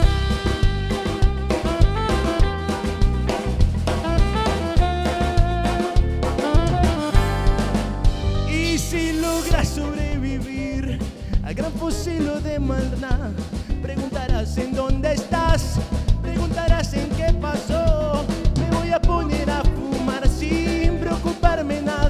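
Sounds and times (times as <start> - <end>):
drum kit: 0.0 - 22.0
electric guitar: 0.0 - 22.0
keyboard: 0.0 - 22.0.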